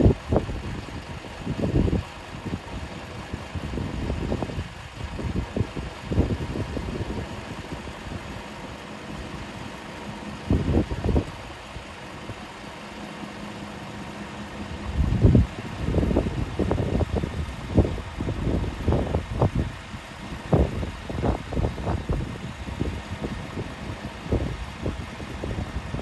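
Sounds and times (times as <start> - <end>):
wind buffeting microphone: 0.0 - 8.4, 10.3 - 12.6, 14.7 - 26.0
air compressor humming: 0.0 - 26.0.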